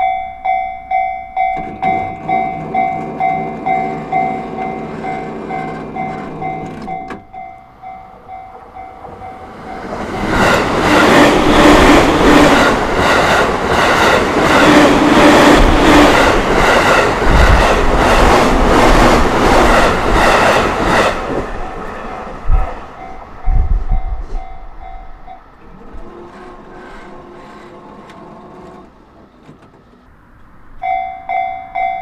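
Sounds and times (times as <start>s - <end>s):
crossing warning bell ringing: 0.0s - 21.6s, 22.9s - 26.4s, 30.5s - 32.0s
train wheels clacking on rails: 0.9s - 30.1s.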